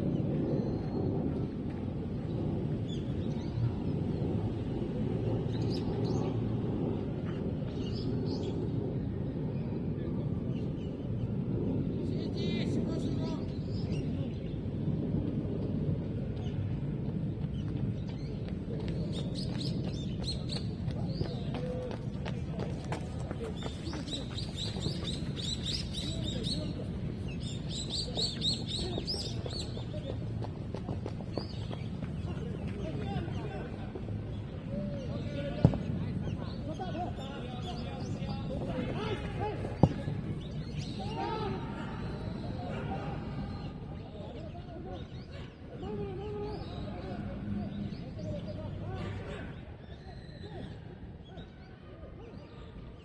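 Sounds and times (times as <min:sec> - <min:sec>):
low outdoor rumble: 0:00.0 - 0:44.0.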